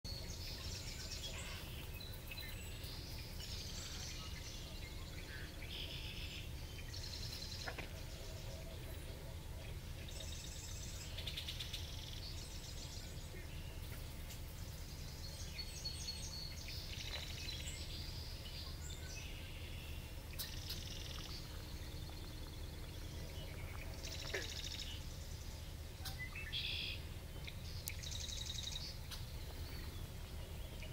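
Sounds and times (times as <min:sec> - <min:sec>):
songbirds singing: 0:00.0 - 0:30.9
low background rumble: 0:00.1 - 0:30.9.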